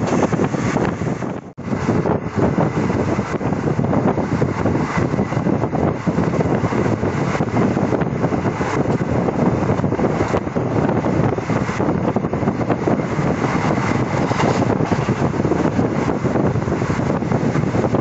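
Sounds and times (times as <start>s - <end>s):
train wheels rumbling on rail: 0.0s - 18.0s
wind buffeting microphone: 0.0s - 18.0s.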